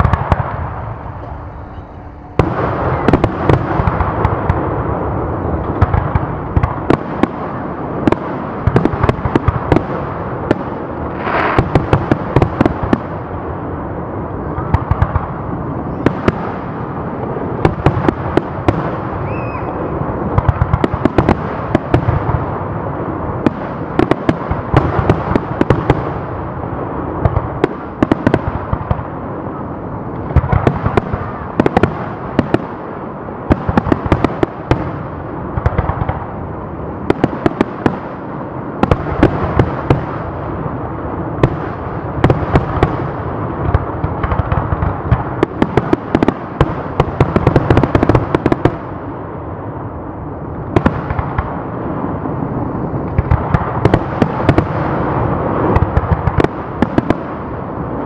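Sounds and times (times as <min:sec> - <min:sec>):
rumble of distant bursts: 0:00.0 - 0:58.0.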